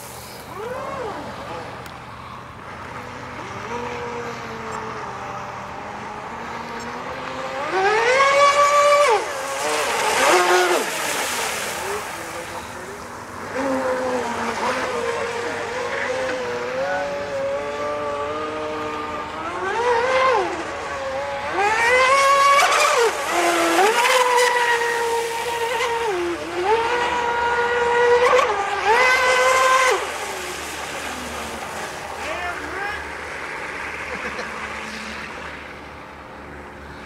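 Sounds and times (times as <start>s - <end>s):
model speedboat motor whining: 0.0s - 37.0s.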